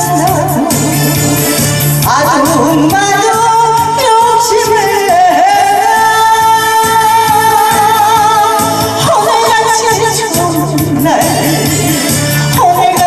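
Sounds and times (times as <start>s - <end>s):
woman singing into microphone: 0.0s - 1.2s, 2.0s - 13.0s
amplified backing track: 0.0s - 13.0s.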